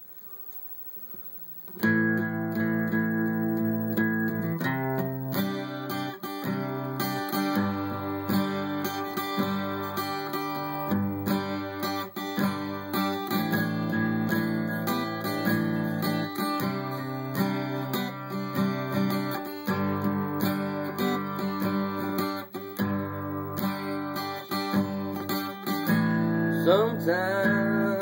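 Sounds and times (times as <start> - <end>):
acoustic guitar strumming chords: 1.7 - 28.0.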